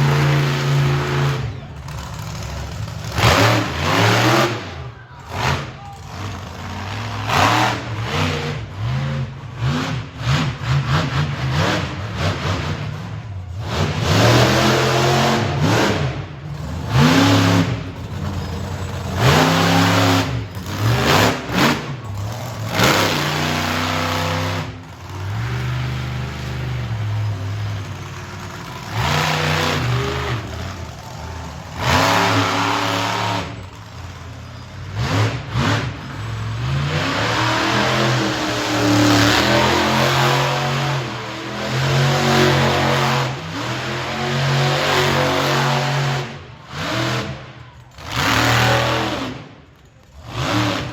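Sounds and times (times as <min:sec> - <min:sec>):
monster truck engine revving: 0:00.0 - 0:50.9.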